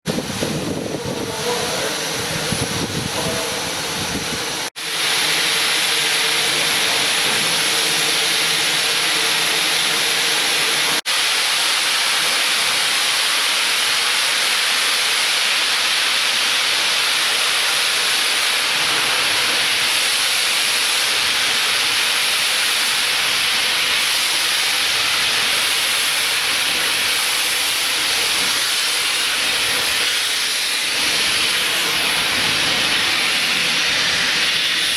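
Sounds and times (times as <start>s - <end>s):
steam locomotive hissing: 0.1s - 34.9s.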